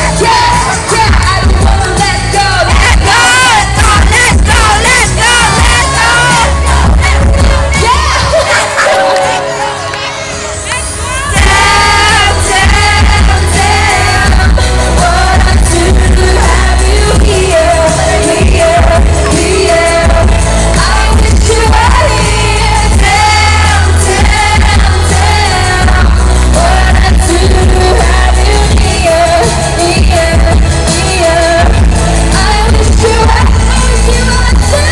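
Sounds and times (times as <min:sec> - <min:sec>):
pop song over sound system: 0:00.0 - 0:34.9.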